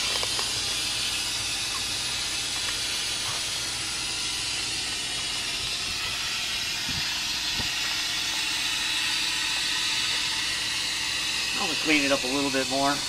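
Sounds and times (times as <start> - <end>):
compressed-air tool hissing: 0.0 - 13.0.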